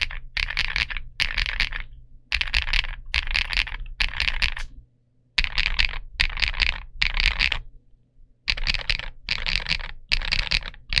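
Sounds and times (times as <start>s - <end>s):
mechanical keyboard typing: 0.0s - 4.7s, 5.4s - 7.7s, 8.5s - 11.0s.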